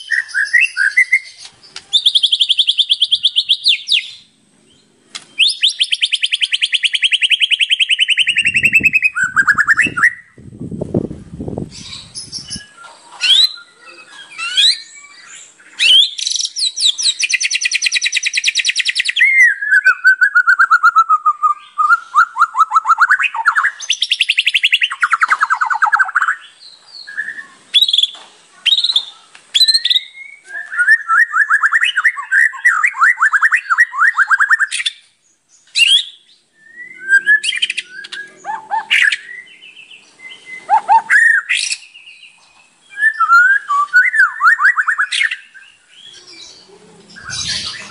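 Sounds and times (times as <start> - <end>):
bird singing varied song: 0.0 - 47.9.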